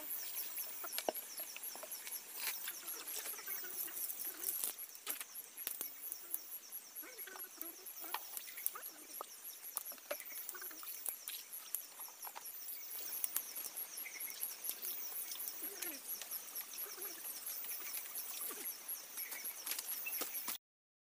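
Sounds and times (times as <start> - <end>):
insects chirping: 0.0 - 20.6.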